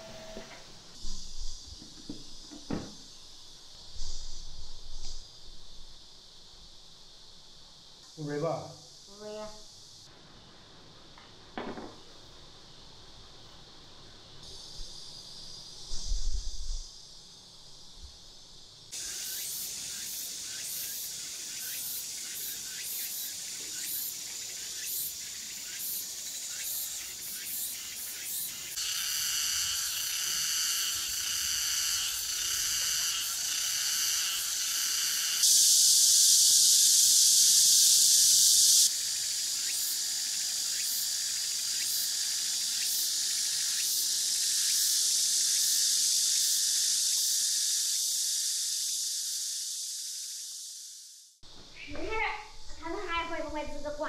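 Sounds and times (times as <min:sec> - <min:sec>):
shrill insect chorus: 0:00.0 - 0:54.0.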